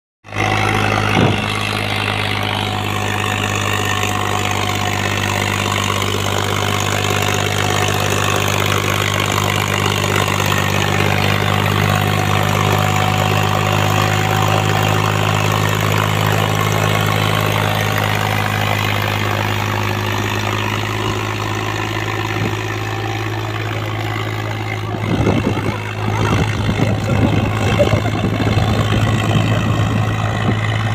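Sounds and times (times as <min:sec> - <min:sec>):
tractor diesel engine under load: 0:00.2 - 0:30.9.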